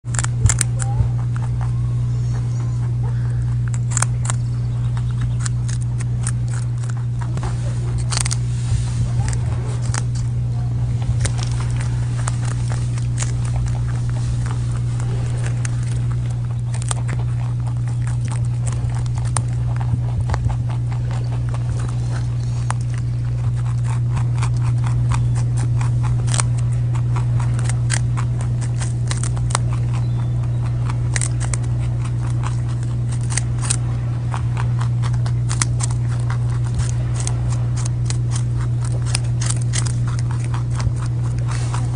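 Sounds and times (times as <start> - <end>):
rabbits crunching cabbage: 0.0 - 41.9
steady low hum: 0.0 - 41.9.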